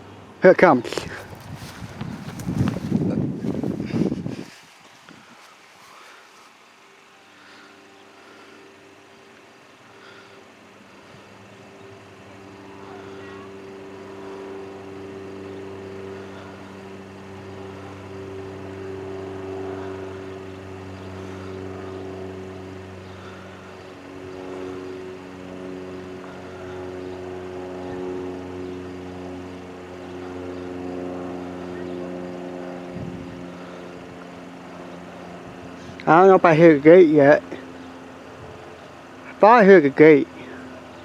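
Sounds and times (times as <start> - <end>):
diesel locomotive engine droning: 0.0 - 4.5, 5.2 - 41.0.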